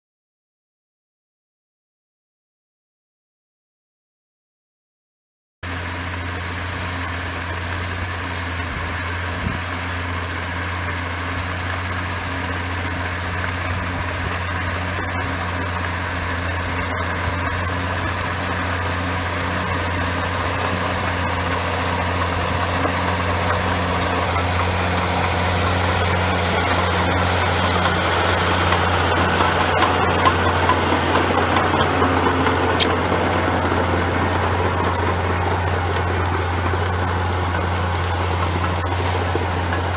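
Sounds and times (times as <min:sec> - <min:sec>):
tractor diesel engine running: 0:05.6 - 0:39.9.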